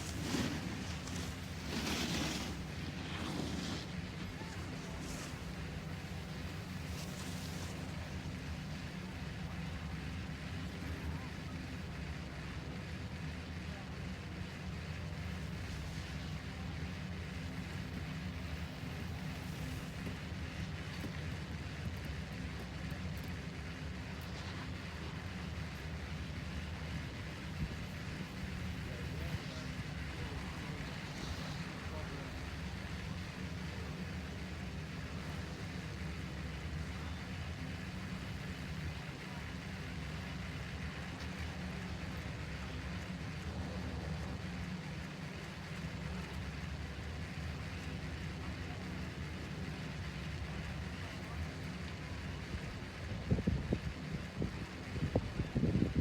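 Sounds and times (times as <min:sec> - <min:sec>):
faint hiss: 0:00.0 - 0:12.8, 0:13.6 - 0:54.1
low mechanical drone: 0:00.0 - 0:56.0
vehicle rumble: 0:00.0 - 0:56.0.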